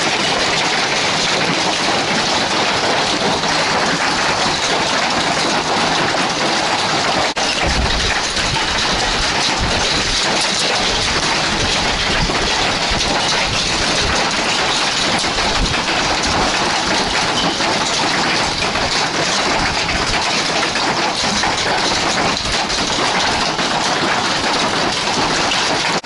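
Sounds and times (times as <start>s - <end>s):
hail clattering with rain: 0.0s - 26.0s.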